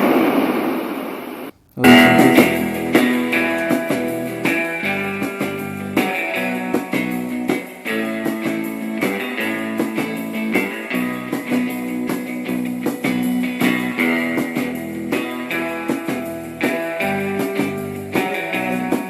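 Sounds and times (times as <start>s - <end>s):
strummed guitar chords: 1.8s - 19.0s.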